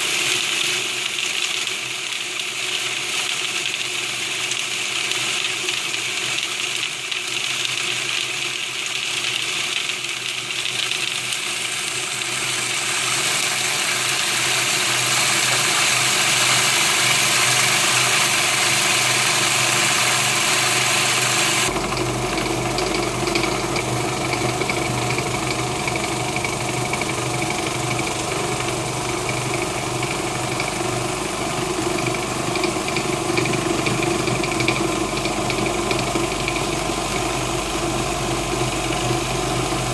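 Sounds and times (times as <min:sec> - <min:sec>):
food processor grinding peanuts: 0:00.0 - 0:39.9.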